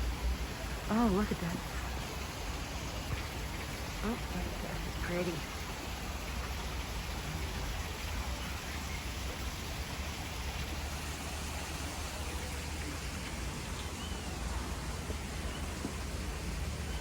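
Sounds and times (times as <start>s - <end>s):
falling water hissing: 0.0s - 17.0s.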